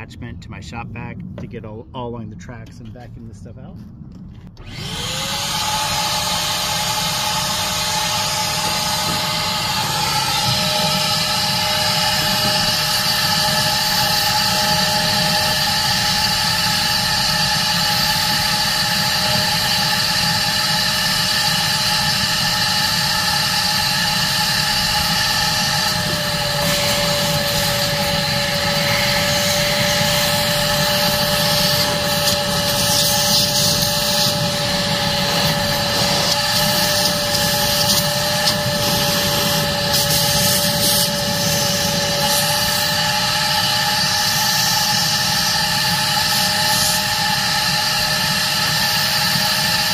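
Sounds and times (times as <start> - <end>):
shop vac motor whine: 4.4 - 49.9.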